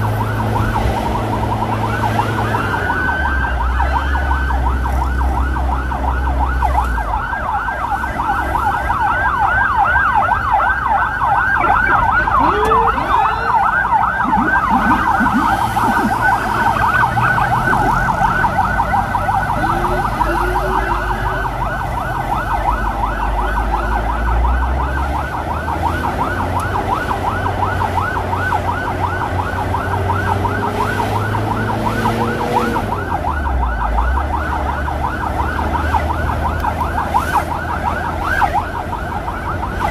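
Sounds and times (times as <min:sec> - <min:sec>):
wind: 0:00.0 - 0:39.9
electronic siren warbling: 0:00.1 - 0:39.9.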